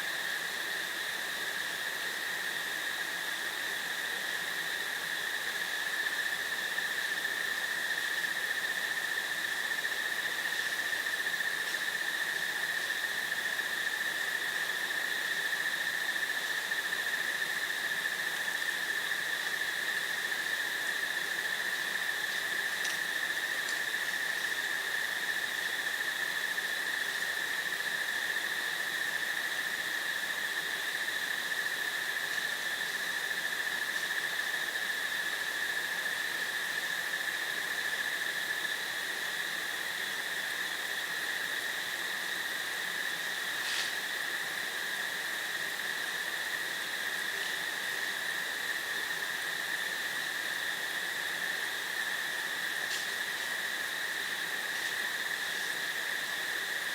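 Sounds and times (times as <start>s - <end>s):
breeze hiss: 0.0s - 56.9s
crickets chirring: 0.0s - 56.9s.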